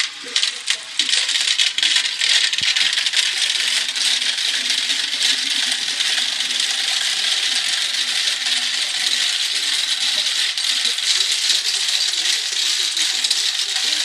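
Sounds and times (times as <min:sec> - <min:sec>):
marbles clattering down plastic tracks: 0:00.0 - 0:14.0.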